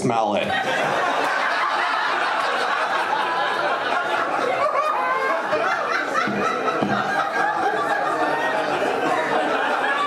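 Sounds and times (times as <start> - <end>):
audience laughing: 0.4 - 10.0.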